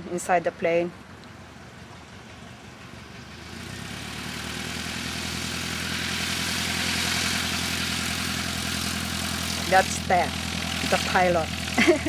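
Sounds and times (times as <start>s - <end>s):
plane engine and propeller: 0.0s - 12.0s.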